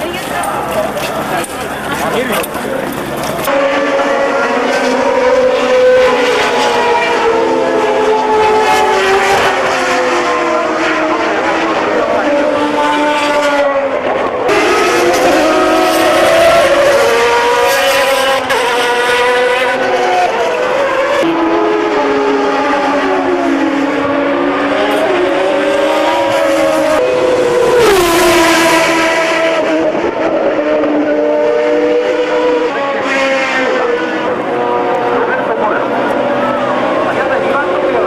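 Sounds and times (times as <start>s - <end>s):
racing car engines at high revs: 0.0s - 38.0s.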